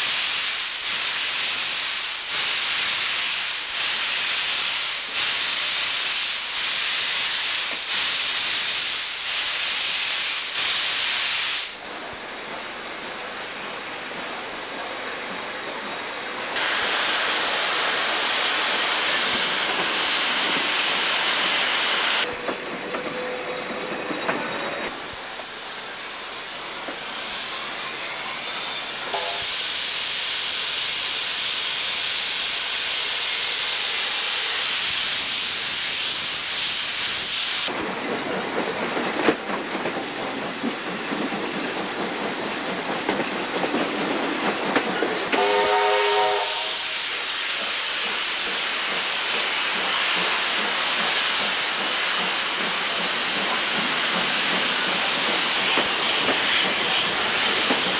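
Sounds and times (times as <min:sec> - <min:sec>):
steam locomotive hissing: 0:00.0 - 0:57.9.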